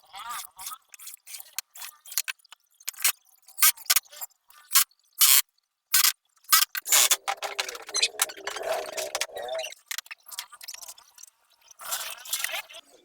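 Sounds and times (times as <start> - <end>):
short irregular clicks and scrapes: 0.3 - 12.8.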